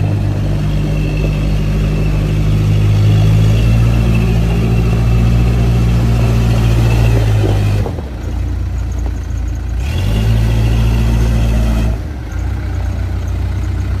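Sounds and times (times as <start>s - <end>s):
diesel engine running: 0.0s - 14.0s
faint engine whine: 0.0s - 14.0s.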